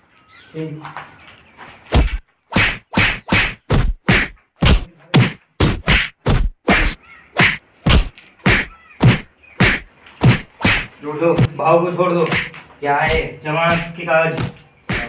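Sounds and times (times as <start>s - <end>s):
whack sound effects: 2.0s - 11.5s, 12.3s - 15.0s.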